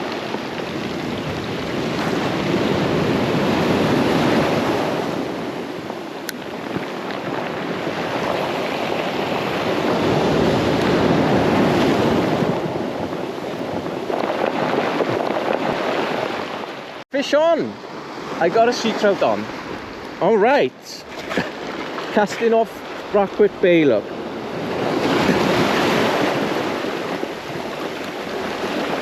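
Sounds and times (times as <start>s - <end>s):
sea surf breaking on shore: 0.0s - 29.0s.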